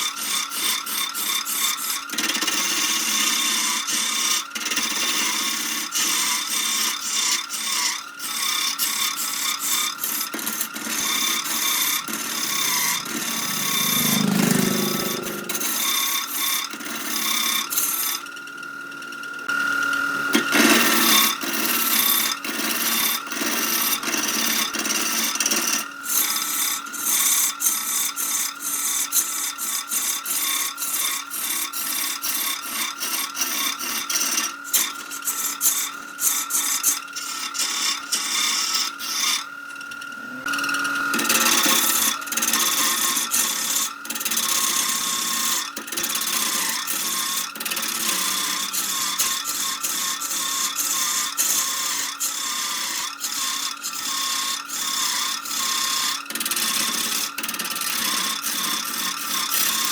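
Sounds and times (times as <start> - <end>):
lathe whine: 0.0 - 59.9
tool cutting wood on lathe: 0.0 - 59.9.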